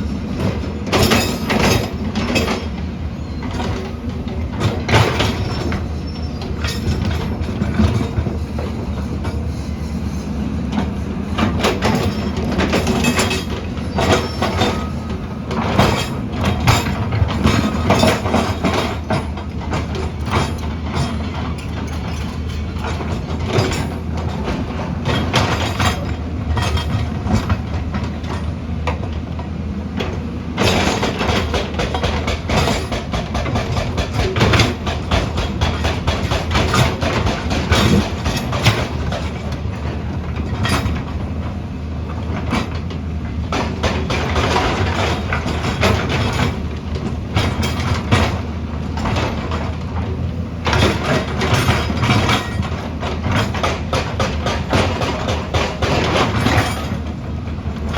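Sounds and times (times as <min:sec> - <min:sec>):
steel tracks clanking: 0:00.0 - 0:57.9.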